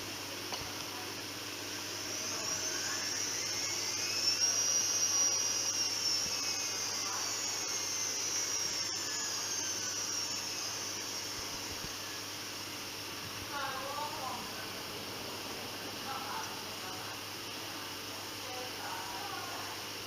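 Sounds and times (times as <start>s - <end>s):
washing machine motor whining: 0.0s - 20.0s.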